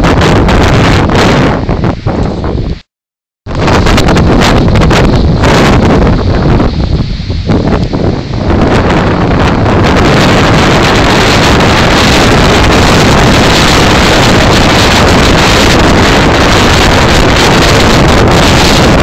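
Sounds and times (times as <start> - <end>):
wind buffeting microphone: 0.0 - 2.9, 3.5 - 19.0.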